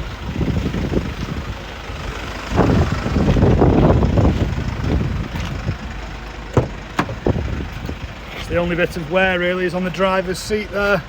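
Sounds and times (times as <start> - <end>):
diesel van engine idling: 0.0 - 11.0
loud rough engine noise: 0.0 - 11.0.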